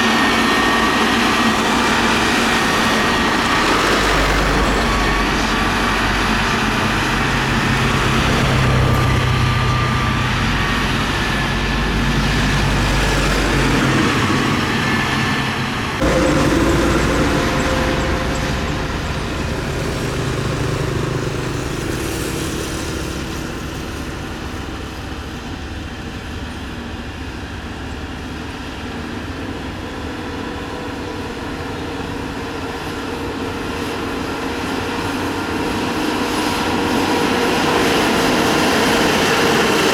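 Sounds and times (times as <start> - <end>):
diesel engine low drone: 0.0 - 39.9.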